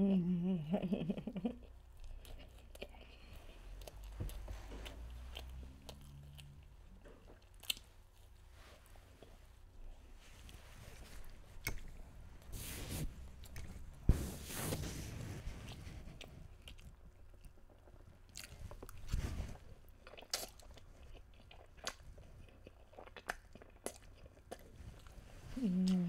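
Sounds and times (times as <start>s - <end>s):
person chewing with wet mouth sounds: 1.4s - 26.0s.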